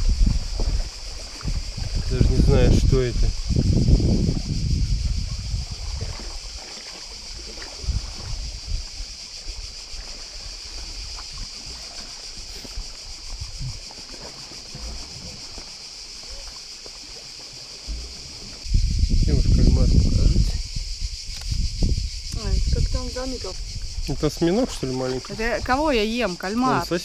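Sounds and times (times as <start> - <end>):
wind rumbling on microphone: 0.0 - 15.7, 17.8 - 26.9
water lapping against rocks: 0.0 - 18.7, 22.4 - 27.0.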